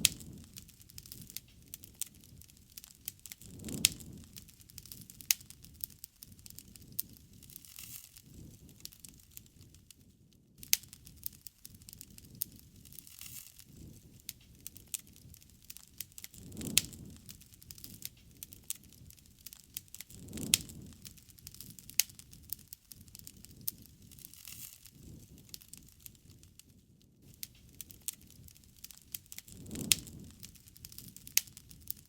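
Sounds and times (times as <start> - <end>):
burning wood popping: 0.0 - 32.0
campfire crackling: 0.0 - 32.0
low rush of flame: 0.0 - 32.0.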